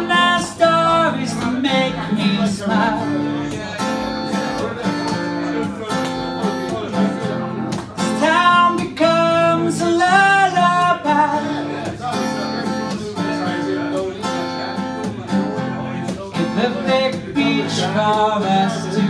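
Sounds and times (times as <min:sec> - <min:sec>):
acoustic guitar strumming: 0:00.0 - 0:19.0
man singing: 0:00.0 - 0:19.0.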